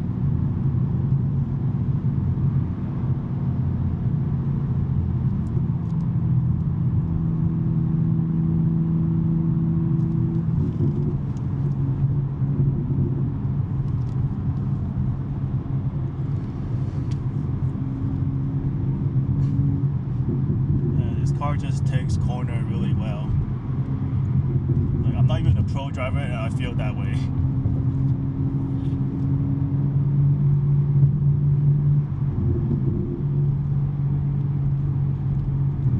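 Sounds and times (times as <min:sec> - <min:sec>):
car exhaust drone: 0:00.0 - 0:35.9
road noise: 0:00.0 - 0:35.9.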